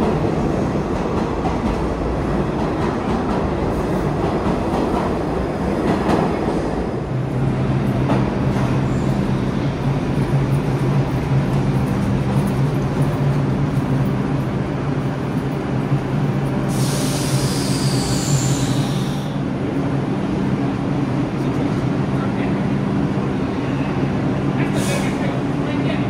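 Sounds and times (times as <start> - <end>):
subway train running: 0.0 - 26.0.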